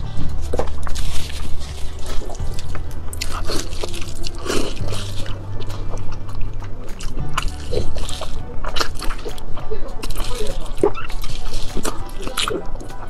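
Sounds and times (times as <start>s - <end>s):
background music with low bass: 0.0s - 13.0s
wet chewing and sucking: 0.0s - 13.0s
wet mouth clicks: 0.8s - 12.8s.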